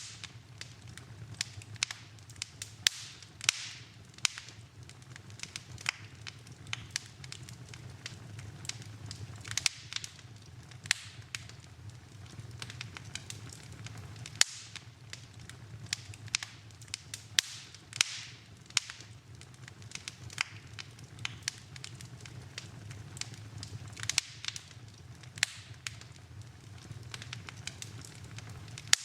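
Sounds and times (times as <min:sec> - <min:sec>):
fire hissing: 0:00.0 - 0:29.0
wood fire crackling and popping: 0:00.0 - 0:29.0.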